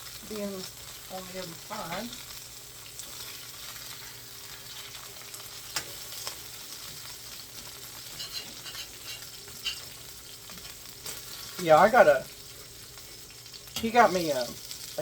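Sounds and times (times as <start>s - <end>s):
meat sizzling on grill pan: 0.0s - 15.0s.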